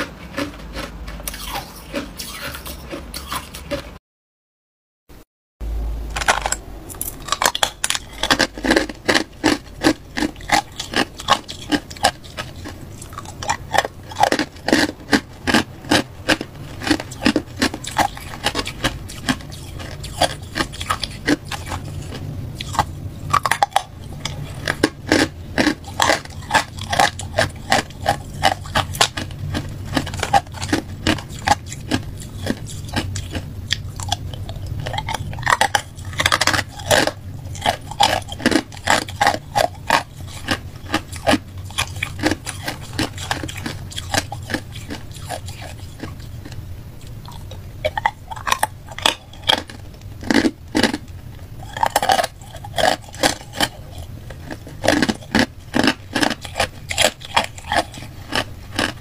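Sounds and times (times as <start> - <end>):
person crunching ice cubes: 0.0 - 3.9, 6.1 - 59.0.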